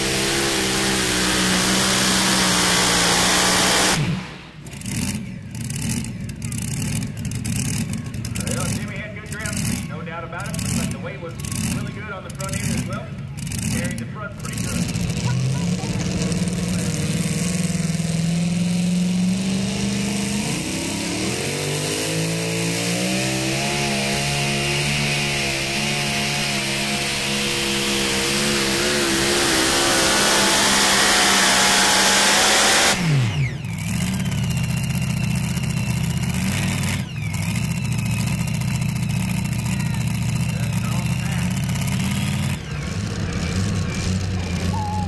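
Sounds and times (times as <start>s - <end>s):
truck engine at full throttle: 0.0s - 45.0s.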